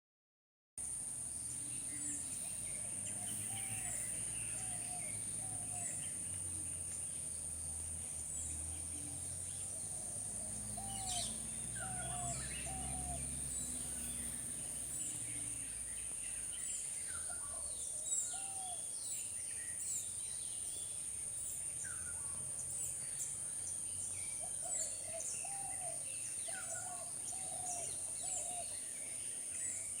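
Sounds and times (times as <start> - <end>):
birds chirping and whistling: 1.8 - 7.1, 9.5 - 30.0.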